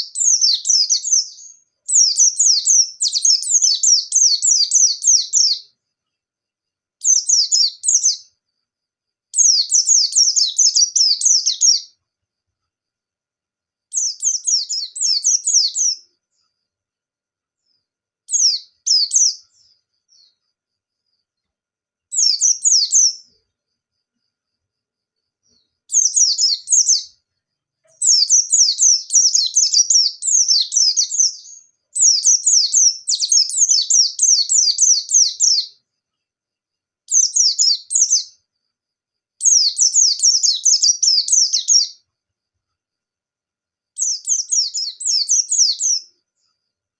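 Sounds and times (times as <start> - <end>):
white-eye bird singing: 0.0 - 12.0, 13.9 - 16.7, 17.6 - 23.6, 25.2 - 36.4, 37.0 - 38.6, 39.4 - 42.1, 43.9 - 46.7.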